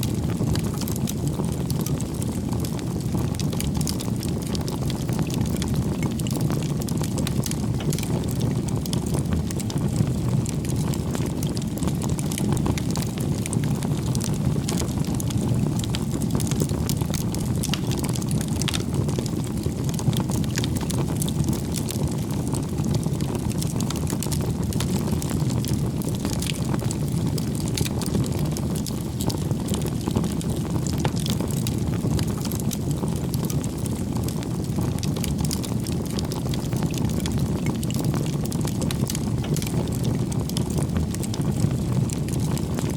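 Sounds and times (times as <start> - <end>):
bonfire flames roaring: 0.0 - 42.9
fire crackling and popping: 0.0 - 42.9.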